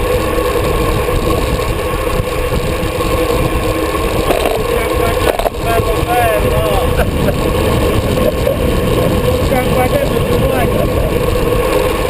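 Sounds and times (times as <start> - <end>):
tyre road noise on asphalt: 0.0 - 12.0.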